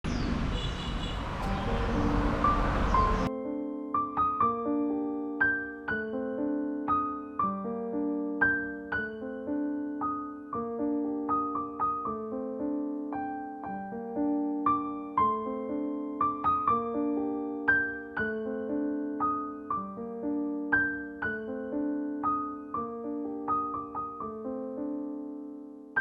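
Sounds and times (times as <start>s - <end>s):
soft piano music: 1.1s - 26.0s.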